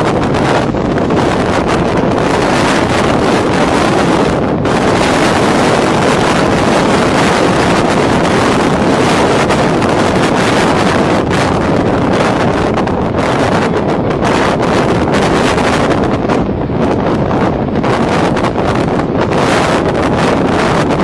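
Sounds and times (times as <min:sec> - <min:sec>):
heavy seas breaking: 0:00.0 - 0:21.0
storm wind on microphone: 0:00.0 - 0:21.0.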